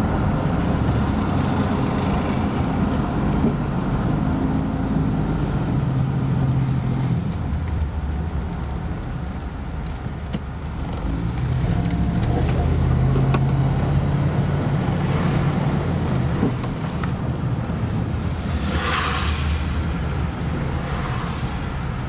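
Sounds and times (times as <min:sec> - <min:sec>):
vehicle road and engine noise: 0:00.0 - 0:22.0.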